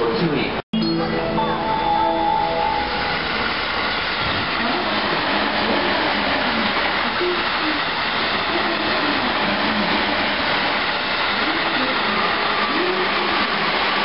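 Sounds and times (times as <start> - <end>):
train wheels on rails: 2.6 - 14.0.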